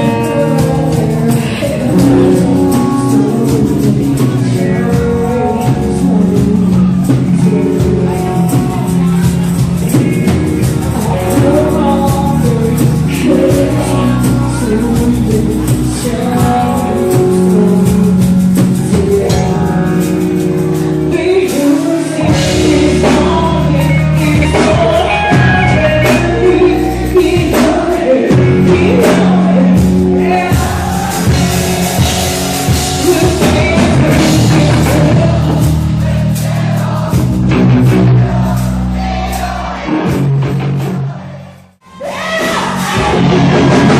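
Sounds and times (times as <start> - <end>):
drums: 0.0 - 43.9
guitar: 0.0 - 43.9
lead singer singing: 0.0 - 43.9
rock band playing: 0.0 - 43.9.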